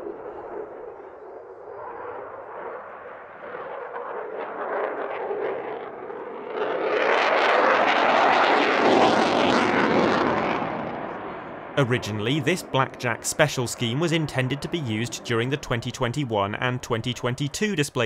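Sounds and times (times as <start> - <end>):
fighter jet roaring: 0.0 - 16.6.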